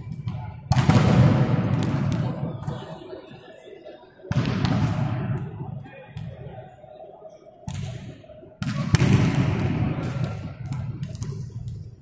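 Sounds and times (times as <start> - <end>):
voices in a sports hall: 0.0 - 12.0.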